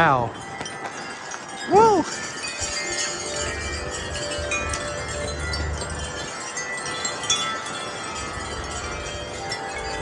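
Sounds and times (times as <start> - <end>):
wind chimes ringing: 0.0 - 10.0.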